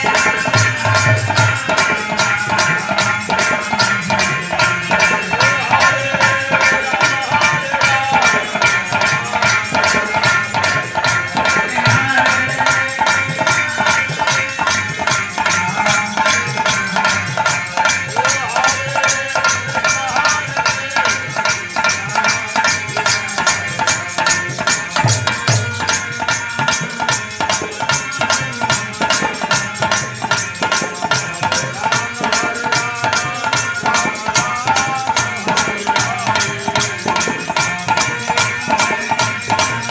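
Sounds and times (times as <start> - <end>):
hand drums beating: 0.0 - 39.9
shaker percussion: 0.0 - 39.9.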